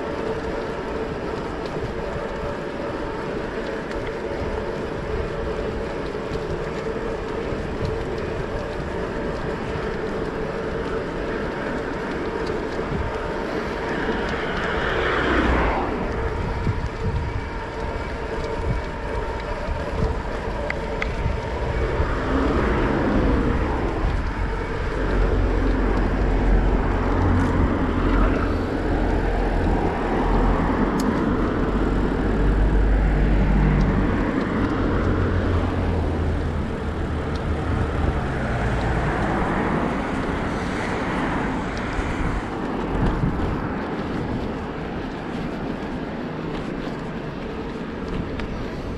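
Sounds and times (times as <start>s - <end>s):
road and traffic noise: 0.0s - 48.9s
wind buffeting microphone: 0.0s - 48.9s.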